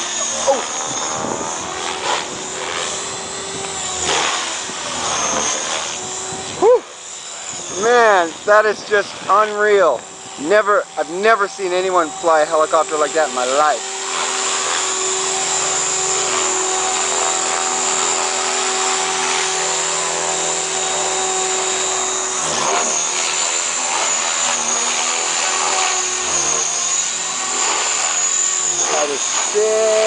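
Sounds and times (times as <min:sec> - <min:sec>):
model helicopter whine: 0:00.0 - 0:30.0.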